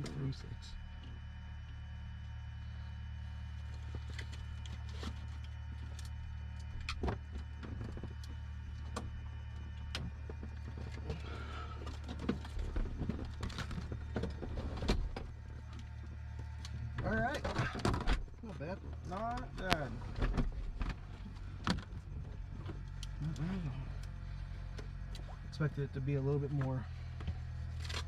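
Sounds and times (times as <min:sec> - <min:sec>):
aircraft engine idling: 0:00.0 - 0:28.0.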